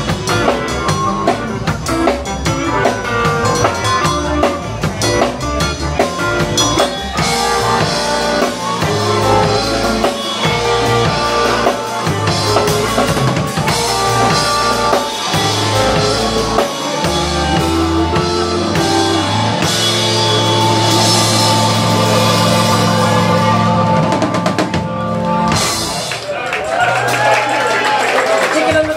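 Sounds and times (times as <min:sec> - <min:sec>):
electric bass: 0:00.0 - 0:26.3
electric guitar: 0:00.0 - 0:26.3
drum kit: 0:00.0 - 0:28.9.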